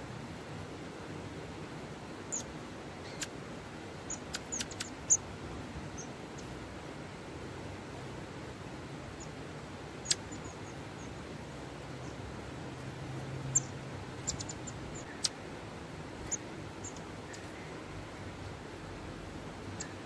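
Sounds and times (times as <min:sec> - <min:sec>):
low background hum: 0:00.0 - 0:20.0
small birds chirping: 0:02.2 - 0:07.2, 0:07.8 - 0:20.0.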